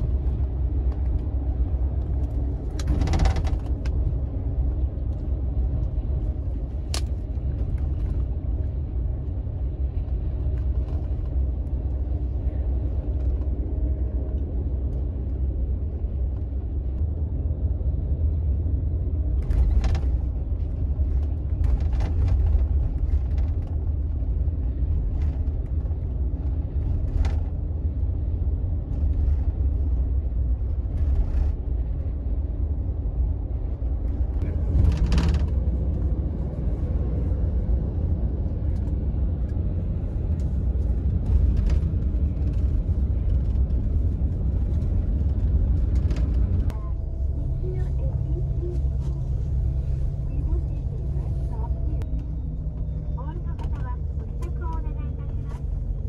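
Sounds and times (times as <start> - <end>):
bus road and engine rumble: 0.0 - 56.0.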